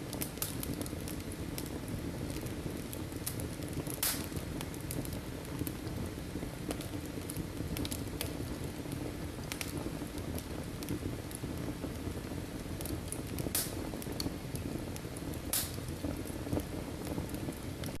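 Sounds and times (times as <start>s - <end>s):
fire burning: 0.0s - 18.0s
firewood crackling and popping: 0.0s - 18.0s.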